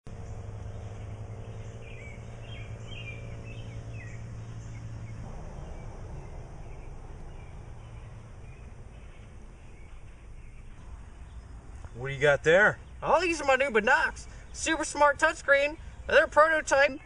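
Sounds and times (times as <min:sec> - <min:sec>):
steady low hum: 0:00.0 - 0:16.2
birds chirping: 0:00.1 - 0:17.0.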